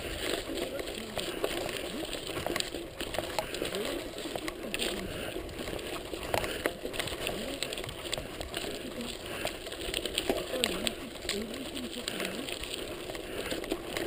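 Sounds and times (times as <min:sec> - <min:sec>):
bike knocking over rocks: 0:00.0 - 0:14.0
bike rattling: 0:00.0 - 0:14.0
tyres crunching on loose stones: 0:00.0 - 0:14.0.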